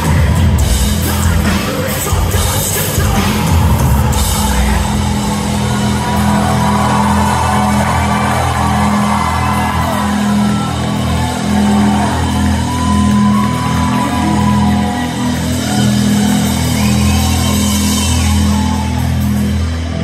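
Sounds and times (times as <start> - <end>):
live metal band playing: 0.0 - 20.0.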